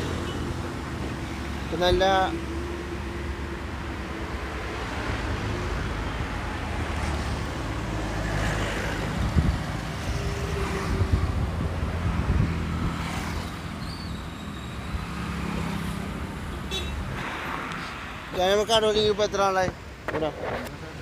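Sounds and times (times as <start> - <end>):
traffic engines humming: 0.0 - 21.0.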